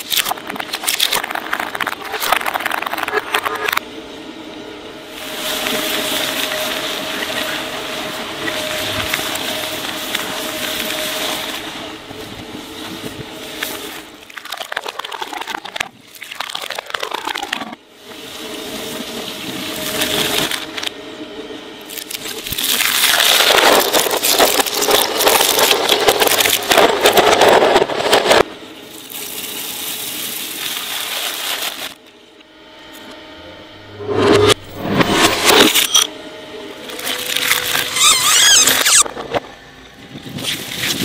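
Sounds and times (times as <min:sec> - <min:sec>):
shredder grinding: 0:00.0 - 0:04.0, 0:04.8 - 0:14.4, 0:17.4 - 0:41.0.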